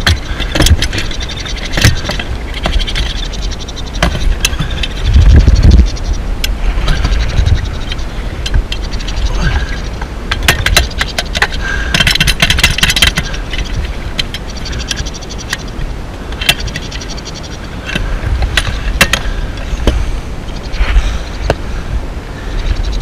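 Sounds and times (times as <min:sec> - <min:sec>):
sharp clicks and knocks: 0:00.0 - 0:09.2, 0:09.9 - 0:17.2, 0:17.8 - 0:20.0.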